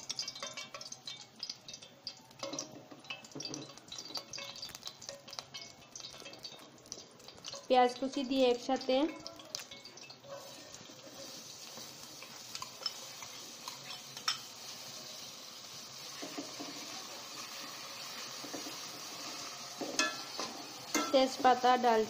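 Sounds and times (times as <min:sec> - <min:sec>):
onion sizzling in hot oil: 0:00.0 - 0:22.0.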